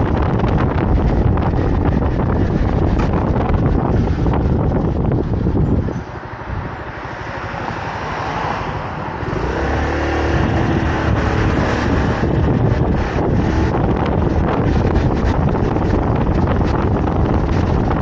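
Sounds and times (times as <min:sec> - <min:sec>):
motorcycle engine: 0:00.0 - 0:18.0
wind over microphone: 0:00.0 - 0:18.0.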